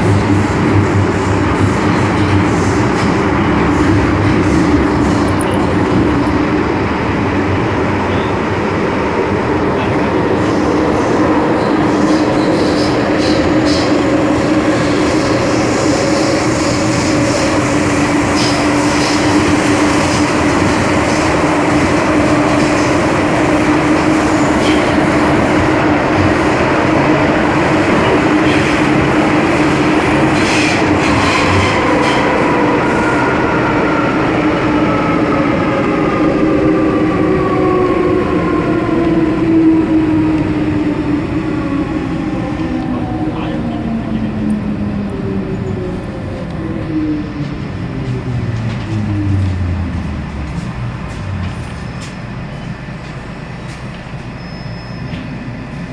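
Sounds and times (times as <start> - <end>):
metro train rumbling in tunnel: 0.0 - 55.9.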